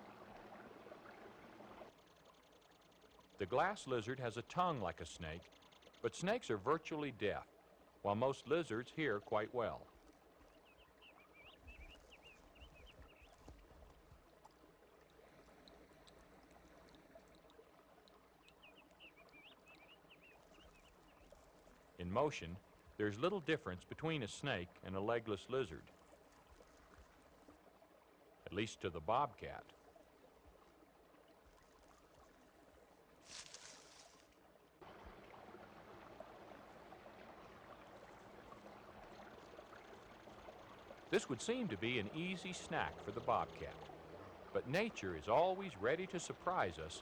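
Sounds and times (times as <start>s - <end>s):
faint outdoor ambience: 0.0s - 47.0s
small stream trickling: 0.0s - 47.0s.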